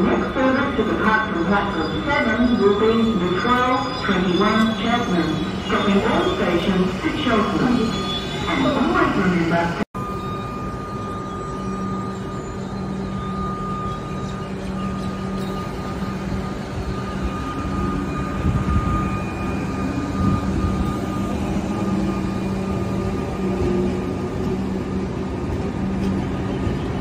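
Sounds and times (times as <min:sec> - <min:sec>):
electric train humming: 0:00.0 - 0:27.0
train wheels rumbling on track: 0:02.6 - 0:27.0.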